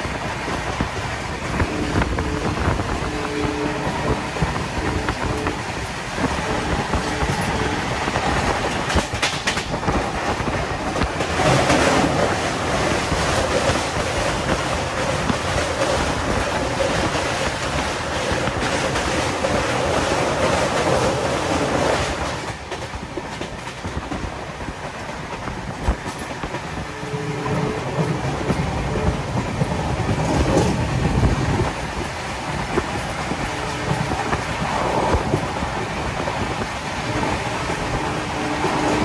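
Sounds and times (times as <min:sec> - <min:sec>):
train wheels on track: 0:00.0 - 0:39.0.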